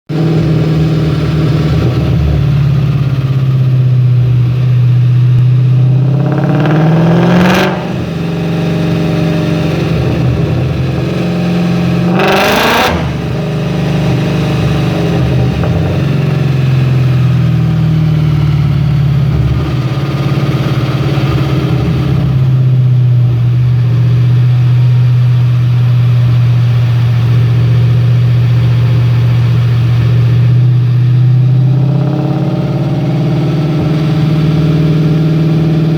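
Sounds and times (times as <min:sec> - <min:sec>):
car engine on dyno: 0:00.1 - 0:35.9.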